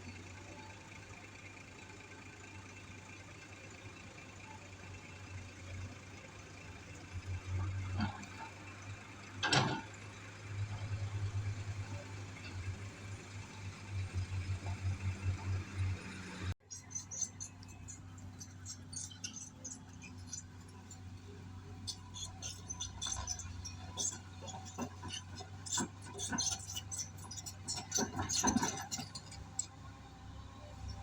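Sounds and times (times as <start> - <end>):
excavator engine hum: 0.0 - 31.0.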